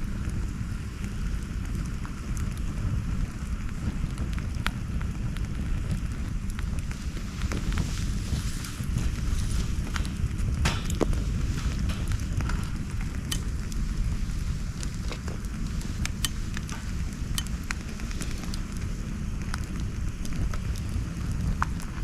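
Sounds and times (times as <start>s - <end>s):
campfire crackling and popping: 0.0s - 22.0s
fire low rumble: 0.0s - 22.0s.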